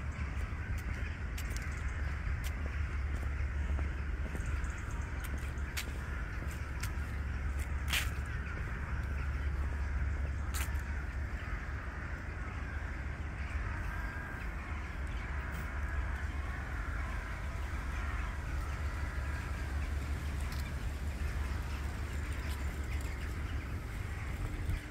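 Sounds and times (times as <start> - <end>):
birds calling: 0.0 - 24.9
steady low rumble: 0.0 - 24.9.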